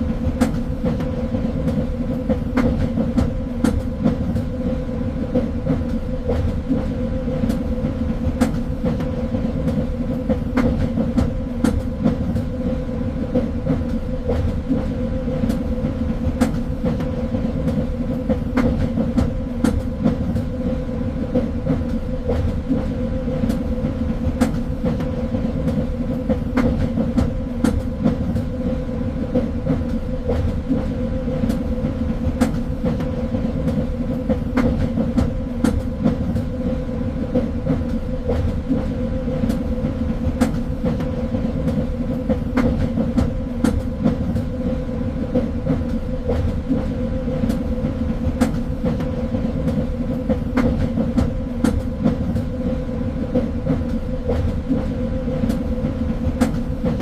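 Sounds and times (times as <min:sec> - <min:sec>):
train rumbling along track: 0:00.0 - 0:57.0
wheels clicking on rails: 0:00.0 - 0:57.0.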